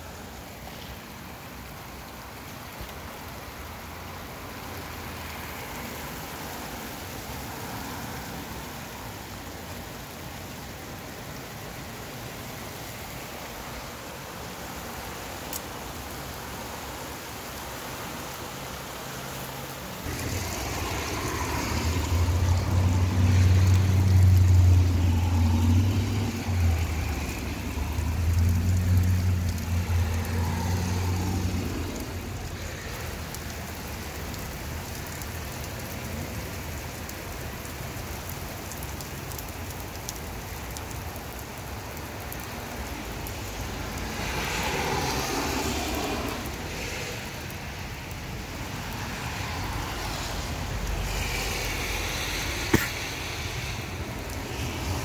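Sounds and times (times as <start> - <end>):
heavy rain falling: 0.0 - 55.0
hiss of tyres on wet road: 0.0 - 55.0.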